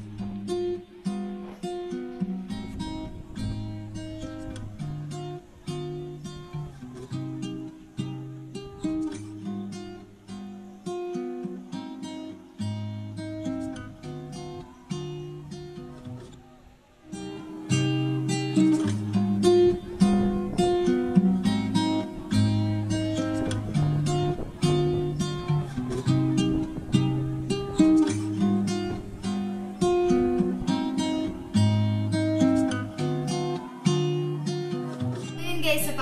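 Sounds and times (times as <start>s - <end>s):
acoustic guitar plucking: 0.0s - 36.0s.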